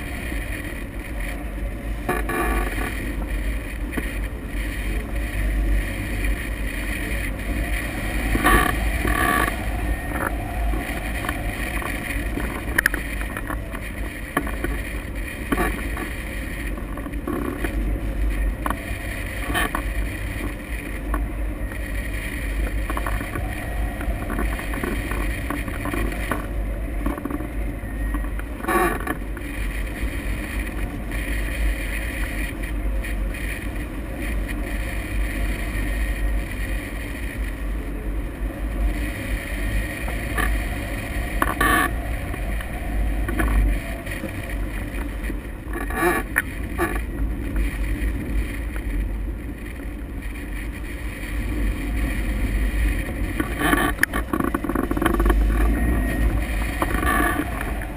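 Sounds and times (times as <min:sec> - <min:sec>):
wind noise on microphone: 0:00.0 - 0:57.9.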